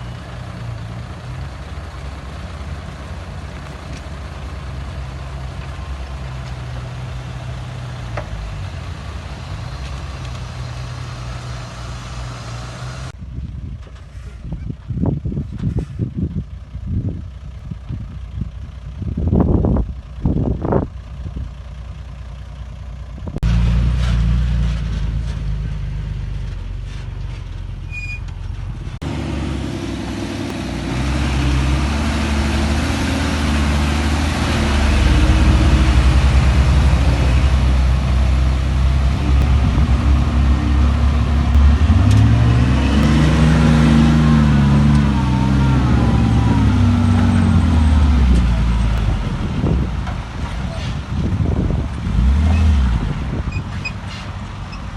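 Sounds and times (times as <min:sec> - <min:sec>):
heavy diesel engines: 0:00.0 - 0:54.9.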